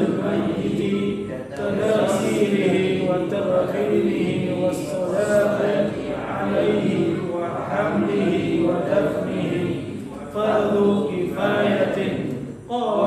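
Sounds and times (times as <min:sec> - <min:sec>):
men reciting in unison: 0:00.0 - 0:13.0.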